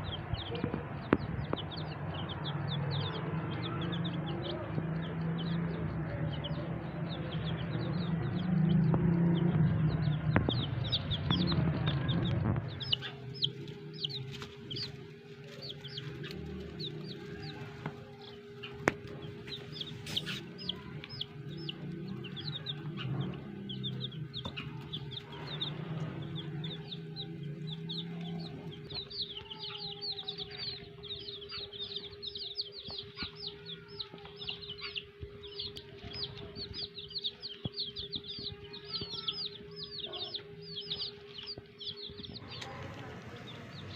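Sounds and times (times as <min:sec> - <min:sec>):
chicks peeping: 0:00.0 - 0:43.9
steady low hum: 0:00.0 - 0:43.9.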